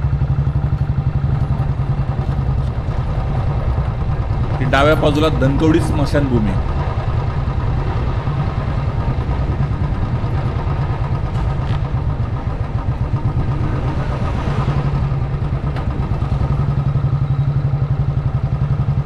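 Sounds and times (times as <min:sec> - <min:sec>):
motorcycle engine pulsing: 0:00.0 - 0:19.0.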